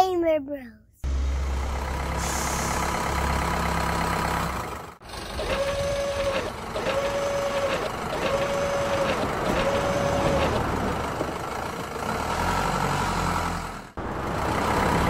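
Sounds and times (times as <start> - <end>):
truck engine idling: 1.0 - 12.6, 13.2 - 15.0.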